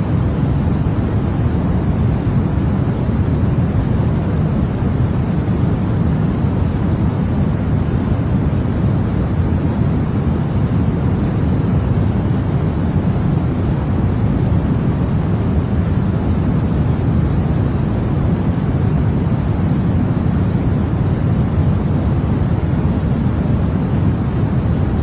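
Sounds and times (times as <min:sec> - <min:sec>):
white noise hiss: 0:00.0 - 0:25.0.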